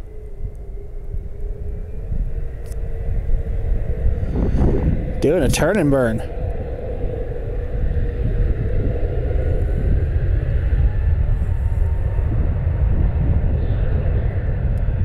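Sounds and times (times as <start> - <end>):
jet engine whine: 0.0 - 15.0
jet engines deep rumble: 0.0 - 15.0.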